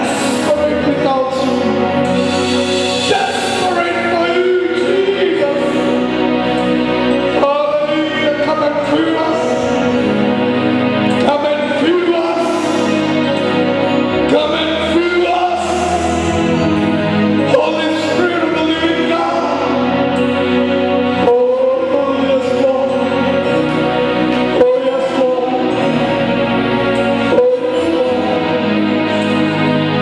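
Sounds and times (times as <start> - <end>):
instrumental accompaniment: 0.0 - 30.0.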